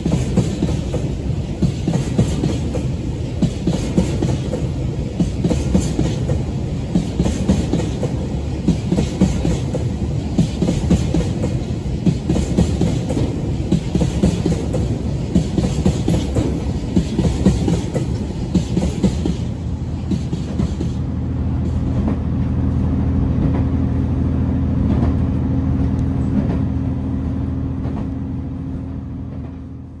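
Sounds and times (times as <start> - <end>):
train wheels clattering on rail joints: 0.0 - 23.9, 24.8 - 27.0, 27.7 - 28.3, 29.2 - 29.9.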